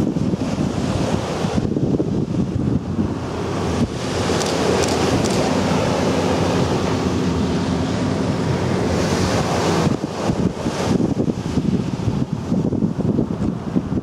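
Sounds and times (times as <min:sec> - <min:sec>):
faint engine hum: 0:00.0 - 0:14.0
water rushing: 0:00.0 - 0:14.0
wind buffeting microphone: 0:00.0 - 0:14.0.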